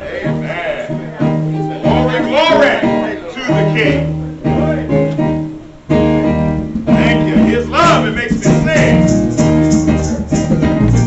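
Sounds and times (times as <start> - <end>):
gospel music on guitar: 0.0 - 11.0.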